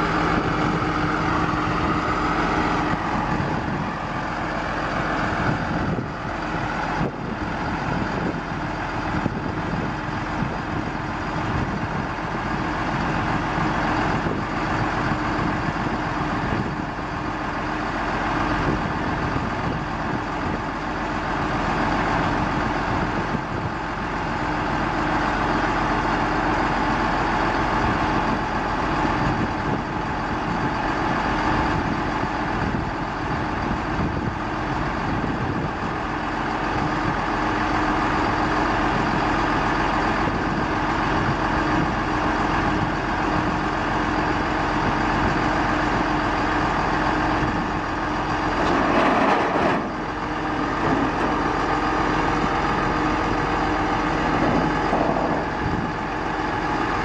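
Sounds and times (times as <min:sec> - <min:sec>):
diesel truck engine humming: 0:00.0 - 0:57.0.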